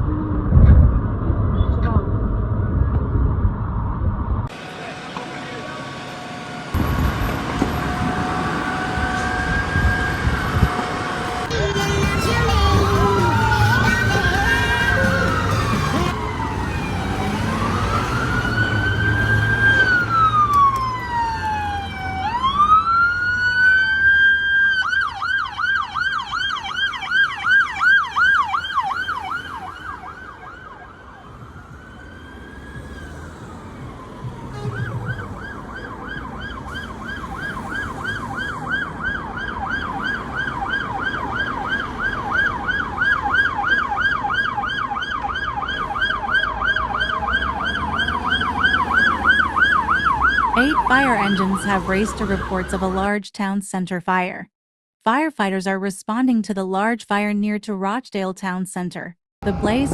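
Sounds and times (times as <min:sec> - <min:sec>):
fire engine siren wailing and yelping: 0:04.5 - 0:53.1.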